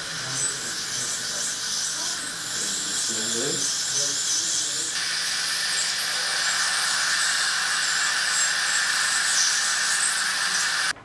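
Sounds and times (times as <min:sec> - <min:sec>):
ultrasonic dental scaler whine: 0:00.0 - 0:11.0.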